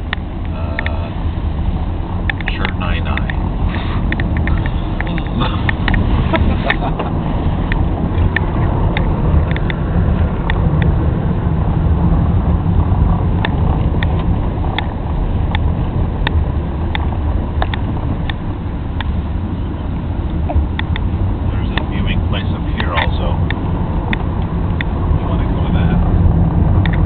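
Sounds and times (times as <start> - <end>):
moving vehicle rumbling: 0.0 - 27.0.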